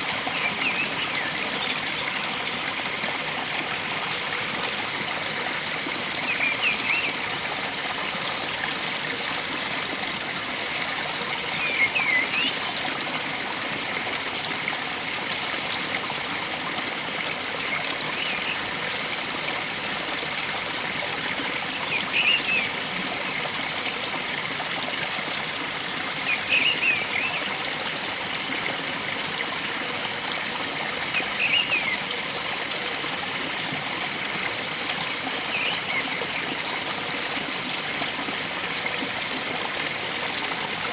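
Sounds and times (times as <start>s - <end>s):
flowing stream: 0.0s - 40.9s.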